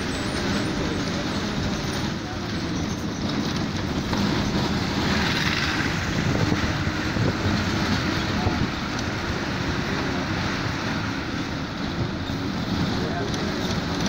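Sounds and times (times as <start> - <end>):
bus engine running: 0.0 - 14.0
rumbling road noise: 0.0 - 14.0.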